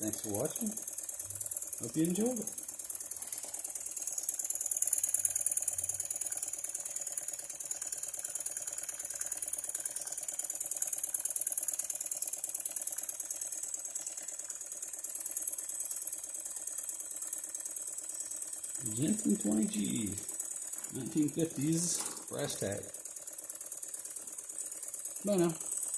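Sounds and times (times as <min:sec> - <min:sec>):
toy steam engine clattering: 0:00.0 - 0:25.9.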